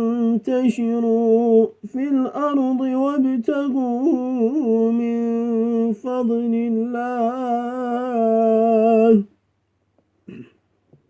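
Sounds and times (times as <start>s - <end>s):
man reciting melodically: 0.0s - 9.3s.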